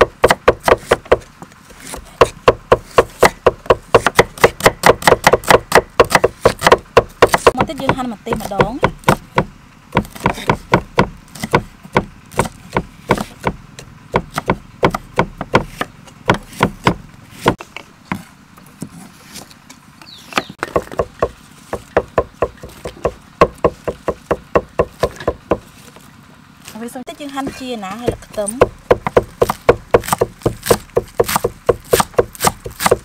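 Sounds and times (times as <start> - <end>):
knife chopping on wooden block: 0.0 - 19.5, 20.3 - 25.7, 27.4 - 33.0.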